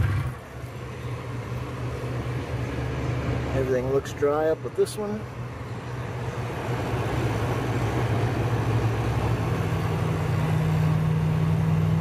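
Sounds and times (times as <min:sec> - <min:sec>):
compressor humming: 0:00.0 - 0:12.0.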